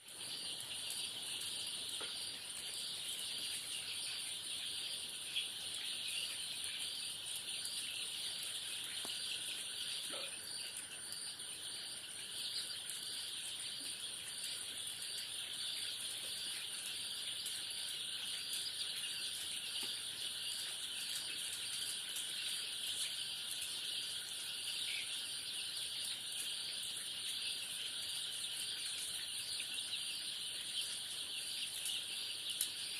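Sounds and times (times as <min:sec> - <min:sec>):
baby chicks peeping: 0:00.0 - 0:32.9.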